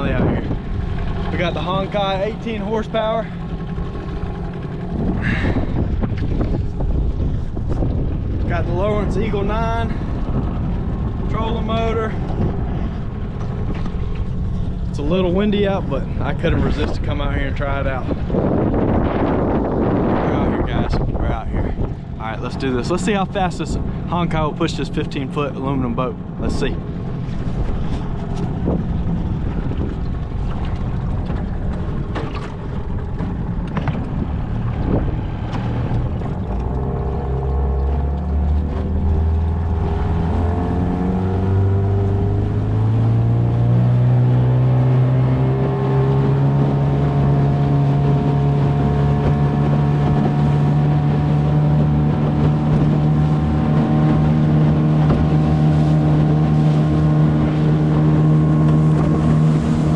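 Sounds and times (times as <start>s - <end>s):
outboard motor revving: 0.0s - 59.9s
wind noise: 0.0s - 59.9s.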